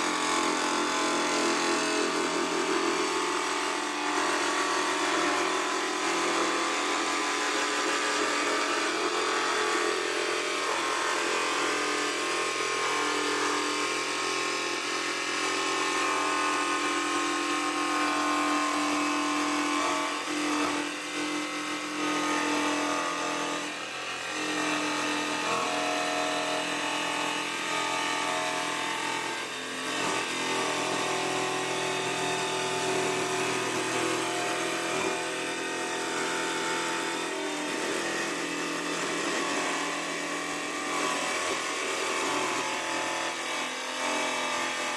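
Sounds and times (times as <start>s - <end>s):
angle grinder cutting sheet metal: 0.0s - 44.9s.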